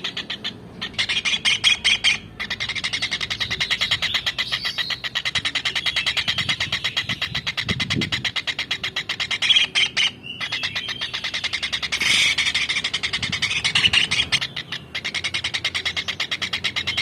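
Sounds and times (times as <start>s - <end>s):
shrill bird calls: 0.0s - 17.0s.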